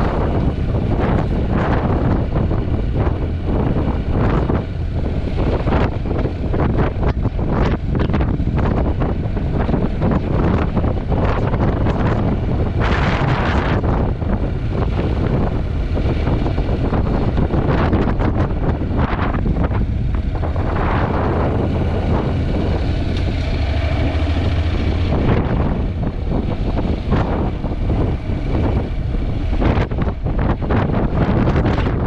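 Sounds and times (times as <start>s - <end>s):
motorcycle engine drone: 0.0s - 32.0s
wind buffeting microphone: 0.0s - 32.0s.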